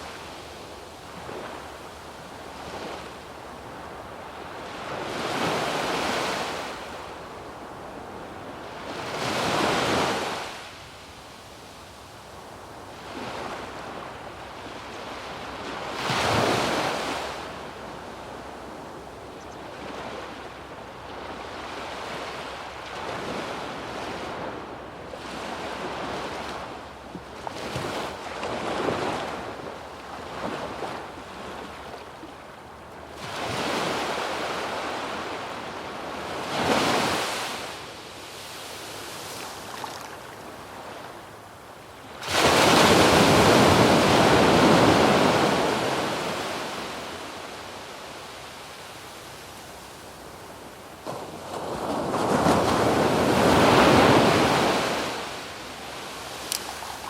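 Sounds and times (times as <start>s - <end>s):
waves washing up a beach: 0.0s - 57.0s.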